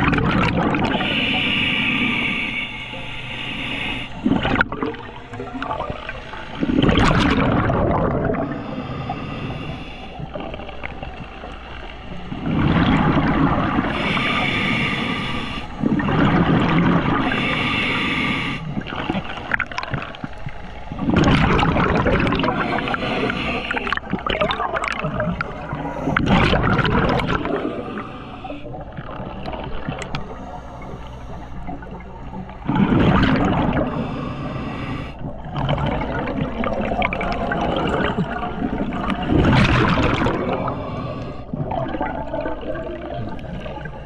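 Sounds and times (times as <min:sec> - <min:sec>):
scuba regulator breathing underwater: 0:00.0 - 0:44.0.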